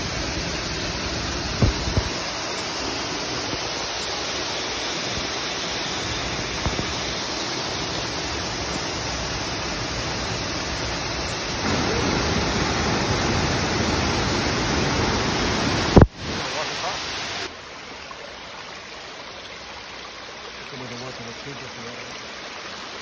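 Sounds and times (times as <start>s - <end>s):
waterfall rushing into a pool: 0.0s - 23.0s.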